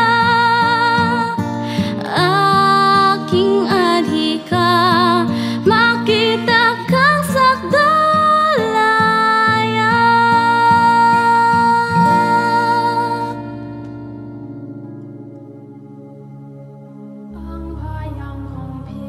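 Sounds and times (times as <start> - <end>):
woman singing with vibrato: 0.0 - 13.7, 17.4 - 19.0
plucked acoustic guitar: 0.0 - 17.4.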